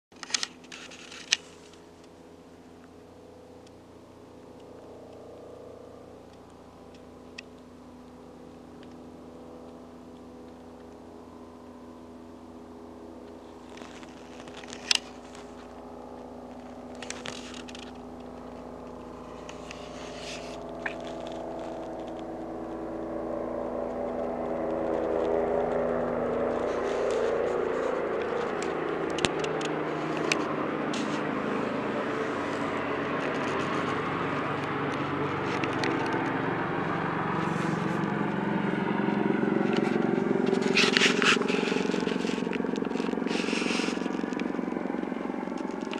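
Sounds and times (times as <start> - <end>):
helicopter rotor and turbine hum: 0.2 - 45.9.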